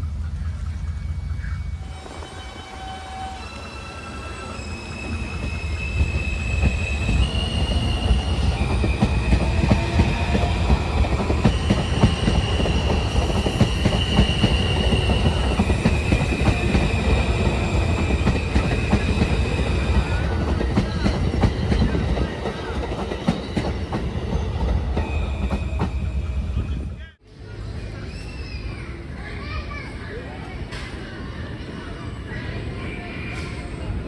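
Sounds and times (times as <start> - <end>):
subway train rumble: 0.0 - 34.0.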